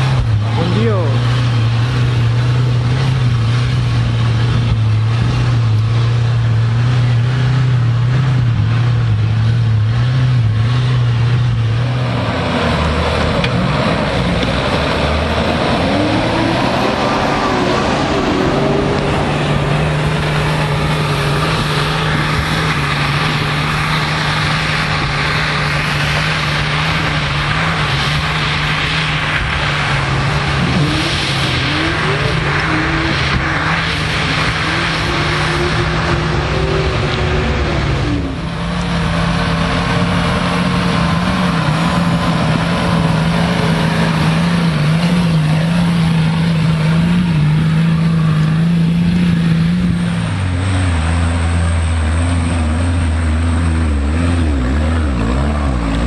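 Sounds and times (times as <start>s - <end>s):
off-road engines revving: 0.0s - 56.0s
vehicle engine running steadily: 0.0s - 56.0s.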